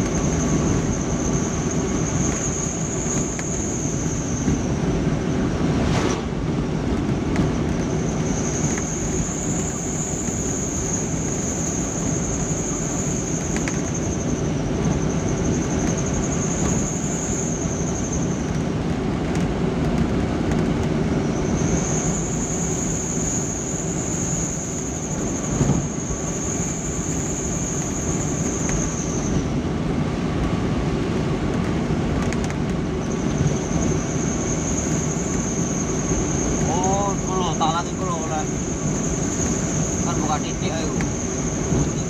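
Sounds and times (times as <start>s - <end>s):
high steady whine: 0.0s - 42.0s
vehicle engine and road rumble: 0.0s - 42.0s.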